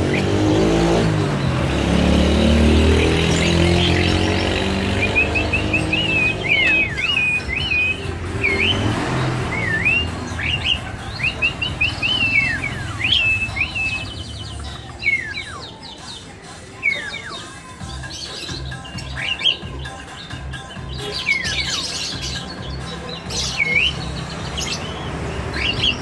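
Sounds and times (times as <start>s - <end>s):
starling whistled calls: 0.0s - 26.0s.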